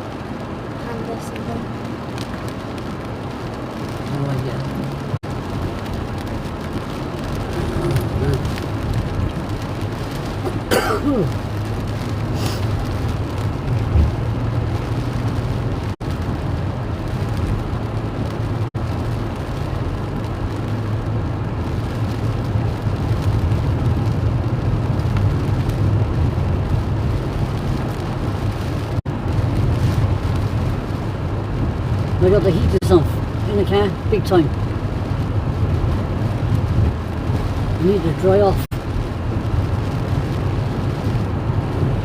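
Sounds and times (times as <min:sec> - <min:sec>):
low engine hum: 0:00.0 - 0:42.0.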